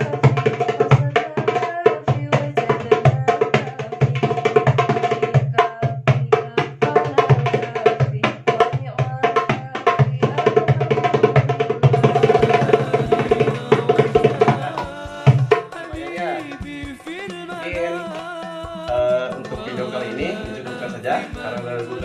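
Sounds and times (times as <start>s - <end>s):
goblet drum played by hand: 0.0s - 22.0s.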